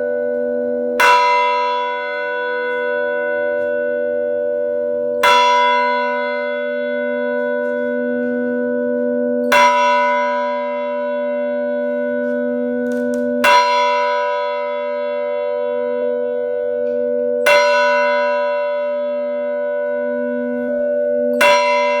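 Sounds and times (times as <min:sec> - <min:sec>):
church bell tolling: 0:00.0 - 0:22.0.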